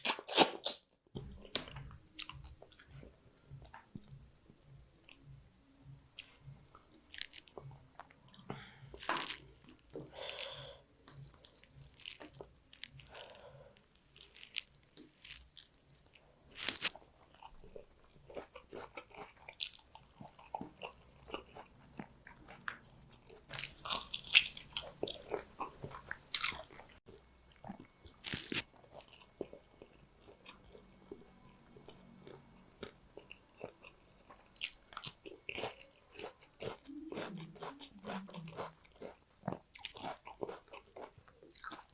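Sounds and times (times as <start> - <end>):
chewing and crunching food: 0.0 - 4.2, 5.9 - 41.9.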